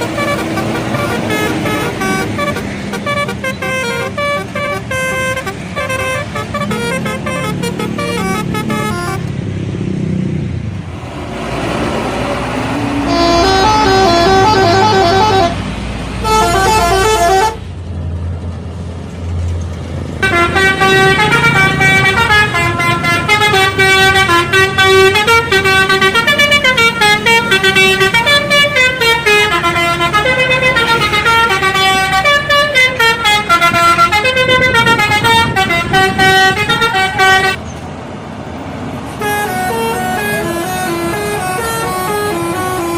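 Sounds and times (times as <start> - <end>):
bus musical horns playing tunes: 0.0 - 9.3, 11.9 - 17.8, 20.2 - 37.7, 39.1 - 42.9
bus engine running: 0.0 - 42.9.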